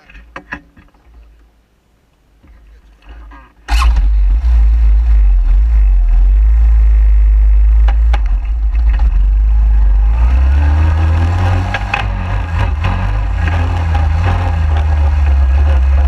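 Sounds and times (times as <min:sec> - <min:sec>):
quad engine rumbling: 0:03.0 - 0:16.0.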